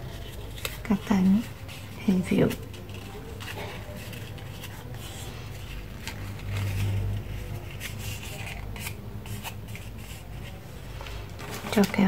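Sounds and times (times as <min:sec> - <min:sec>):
paper clicks and rustles: 0:00.0 - 0:12.0.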